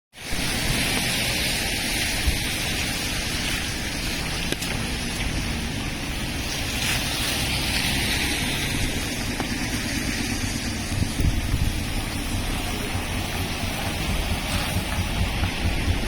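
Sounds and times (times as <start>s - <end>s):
hiss of tyres and engines: 0.2s - 16.0s
low traffic rumble: 0.2s - 16.0s.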